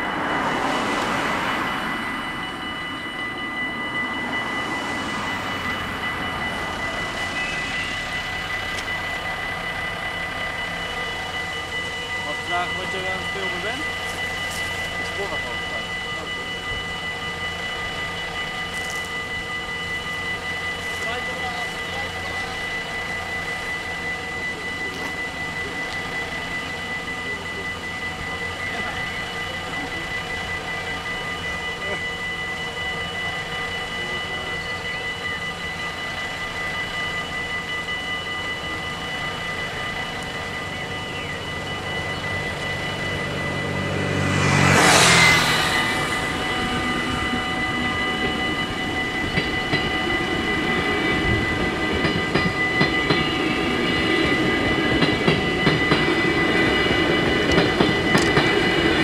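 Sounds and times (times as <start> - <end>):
car engines idling: 0.0 - 59.0
level crossing bells ringing: 0.0 - 59.0
passing train rumble: 0.0 - 59.0.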